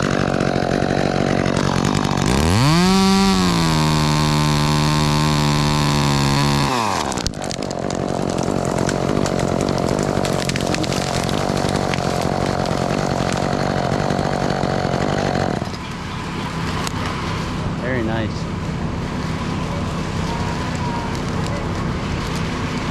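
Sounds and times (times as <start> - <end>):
chainsaw running: 0.0 - 22.9.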